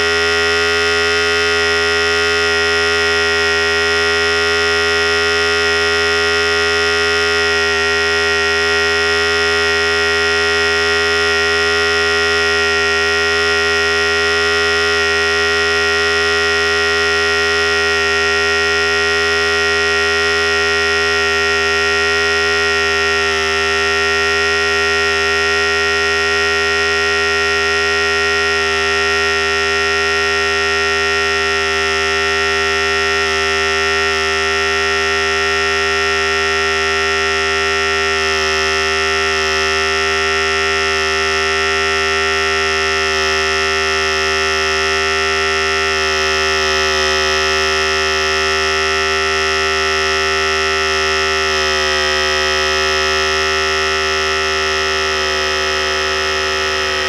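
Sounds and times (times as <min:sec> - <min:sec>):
electric hair clipper buzzing: 0:00.0 - 0:57.0.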